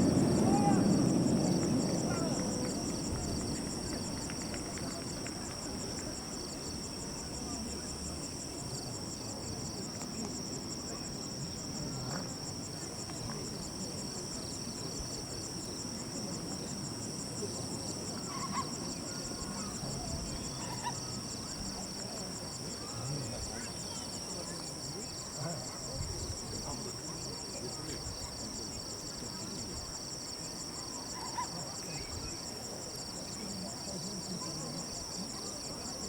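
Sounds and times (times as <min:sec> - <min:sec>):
murmur of crowd chatter: 0:00.0 - 0:36.0.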